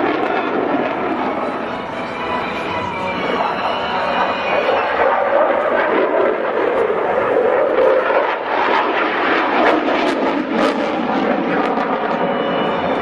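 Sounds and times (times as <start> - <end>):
fighter jet engine roaring: 0.0 - 13.0
jet engine crackling: 0.0 - 13.0.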